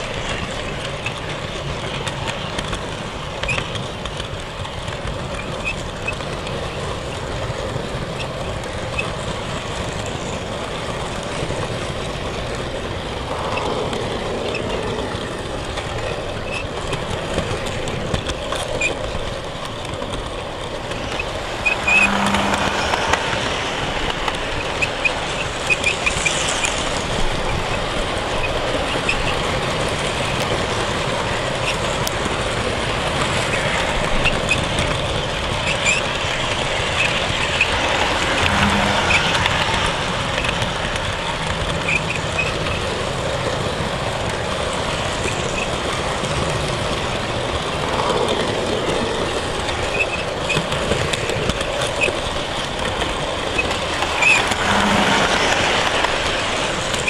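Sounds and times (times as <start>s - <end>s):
model train whirring rumble: 0.0s - 57.0s
wheels clicking on rail joints: 0.0s - 57.0s.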